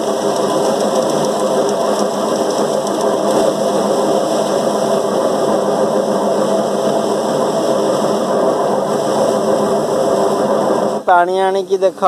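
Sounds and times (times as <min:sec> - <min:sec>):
rice thresher running: 0:00.0 - 0:12.0.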